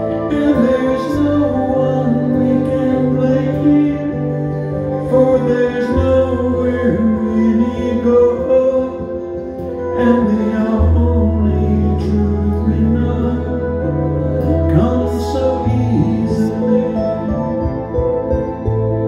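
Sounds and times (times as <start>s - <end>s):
flute melody: 0.0s - 19.0s
low bass notes: 0.0s - 19.0s.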